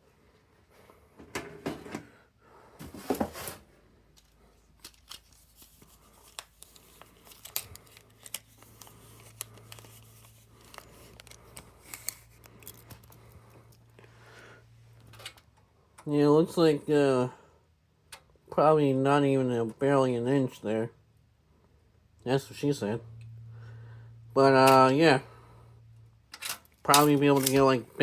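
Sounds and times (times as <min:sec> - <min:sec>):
low steady hum: 0:00.1 - 0:28.0.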